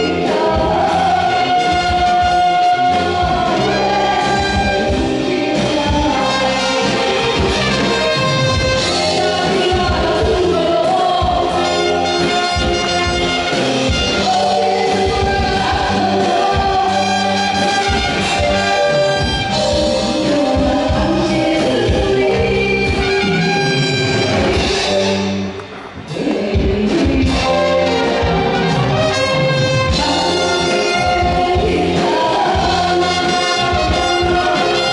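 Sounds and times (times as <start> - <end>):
woman singing into microphone: 0.0 - 8.2, 8.8 - 13.1, 14.1 - 23.8, 24.4 - 29.2, 29.9 - 34.9
trumpet and trombone playing: 0.0 - 25.5, 27.4 - 34.9
band accompaniment: 0.0 - 34.9.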